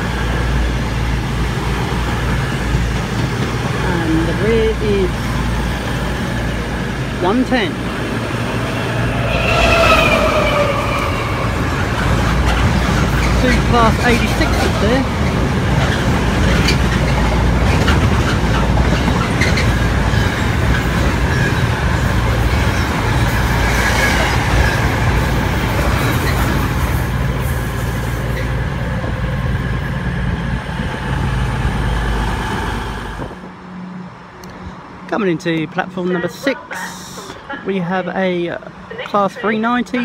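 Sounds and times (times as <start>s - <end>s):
train wheels rumbling on rail: 0.0s - 33.6s.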